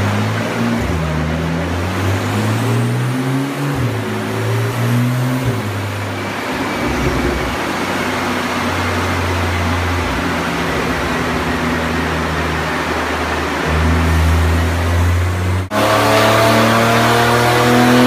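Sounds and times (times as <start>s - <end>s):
car engine drone on dyno: 0.0s - 18.0s.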